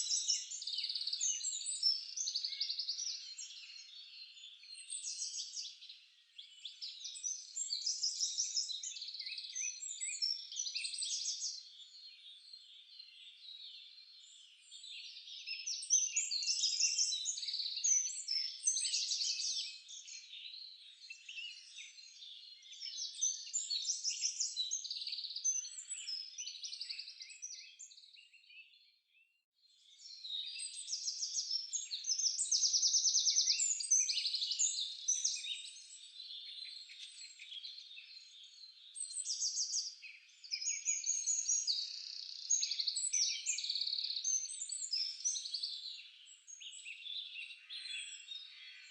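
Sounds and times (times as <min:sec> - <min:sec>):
songbirds chirping: 0:00.0 - 0:48.9.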